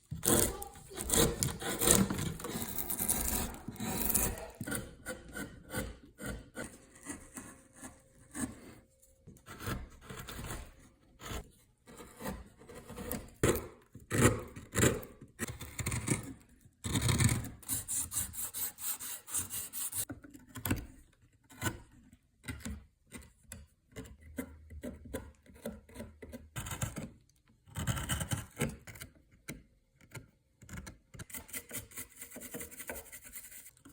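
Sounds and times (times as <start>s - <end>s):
carving tool scraping wood: 0.0s - 20.8s, 21.5s - 29.2s, 30.1s - 33.9s.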